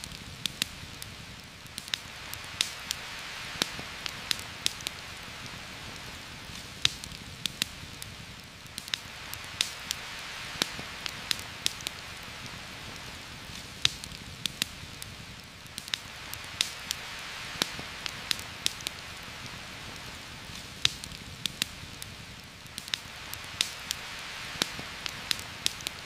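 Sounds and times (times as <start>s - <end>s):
campfire crackling and popping: 0.0s - 26.0s
rain: 0.0s - 26.0s.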